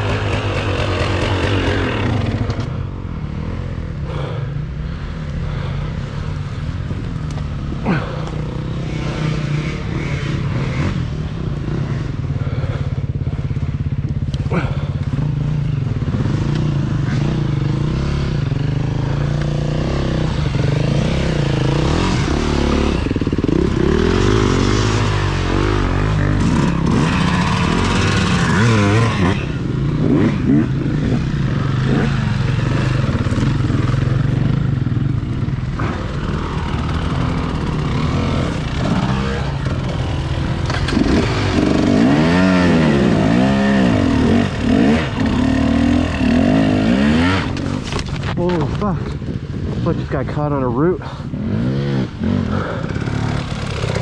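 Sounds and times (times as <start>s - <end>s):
dirt bike engine revving: 0.0s - 54.0s
second dirt bike engine: 0.0s - 54.0s.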